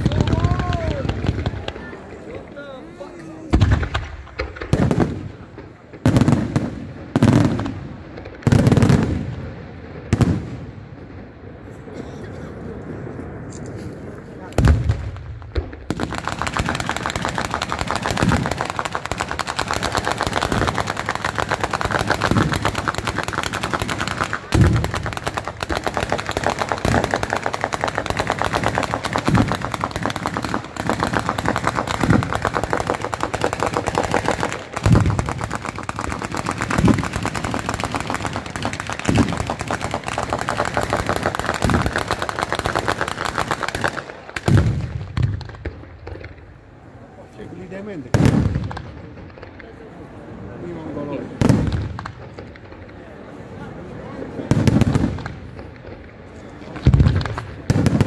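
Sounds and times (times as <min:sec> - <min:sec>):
heavy firework booms: 0:00.0 - 0:02.1, 0:03.5 - 0:11.6, 0:14.6 - 0:46.6, 0:47.6 - 0:49.6, 0:51.3 - 0:52.9, 0:54.4 - 0:56.0, 0:56.8 - 0:58.0
firecrackers crackling: 0:00.0 - 0:58.0.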